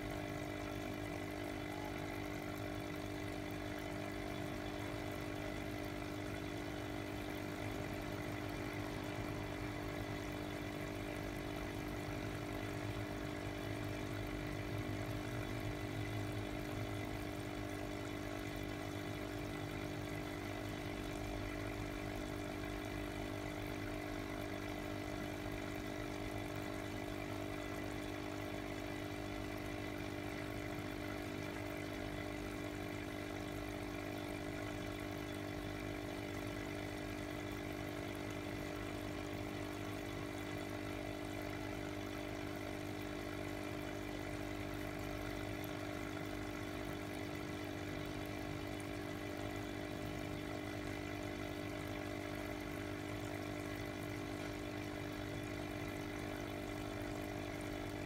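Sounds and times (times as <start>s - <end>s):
aquarium air pump humming: 0.0s - 58.0s.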